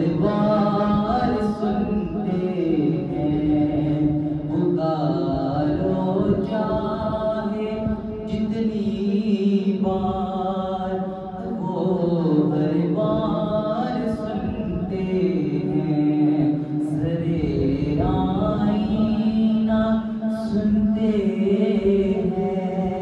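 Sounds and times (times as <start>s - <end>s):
man singing devotional song: 0.0s - 23.0s.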